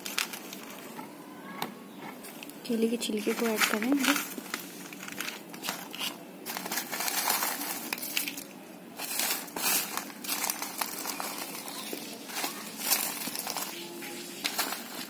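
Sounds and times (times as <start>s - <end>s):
dry leaves and peels rustling: 0.0s - 1.0s, 2.3s - 15.0s.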